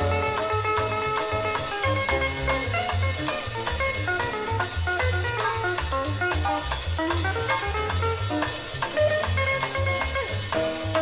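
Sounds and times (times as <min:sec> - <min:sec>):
repeating bass line: 0:00.0 - 0:11.0.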